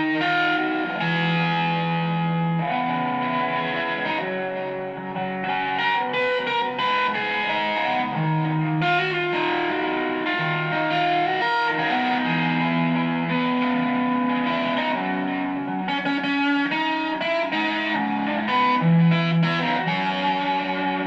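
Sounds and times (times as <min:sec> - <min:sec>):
electric guitar notes and chords: 0:00.0 - 0:21.0.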